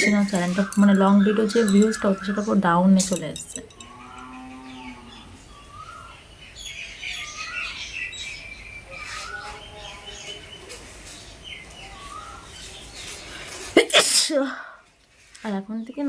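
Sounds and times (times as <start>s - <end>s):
high bird chirping: 0.0s - 13.4s
birds calling: 0.0s - 14.9s.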